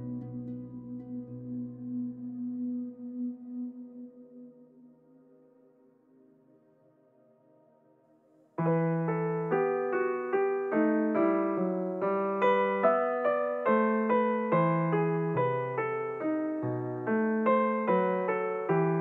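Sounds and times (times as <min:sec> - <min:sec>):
solo piano music: 0:00.0 - 0:05.0, 0:08.6 - 0:19.0.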